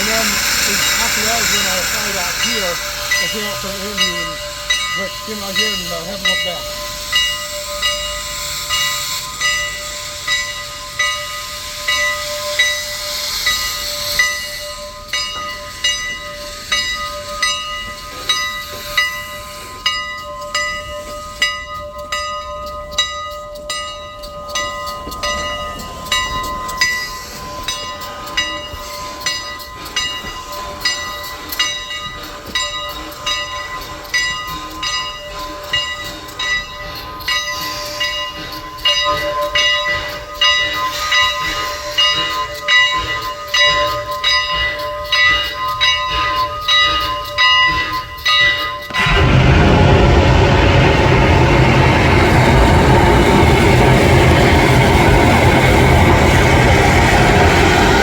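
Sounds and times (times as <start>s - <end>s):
locomotive bell ringing: 0.0s - 58.0s
steam hissing: 0.0s - 58.0s.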